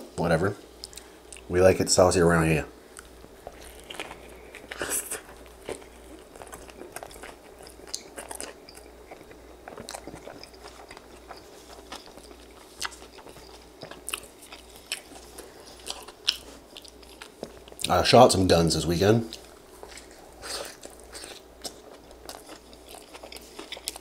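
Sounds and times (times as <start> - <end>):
close chewing with mouth clicks: 2.9 - 17.9, 19.3 - 24.0.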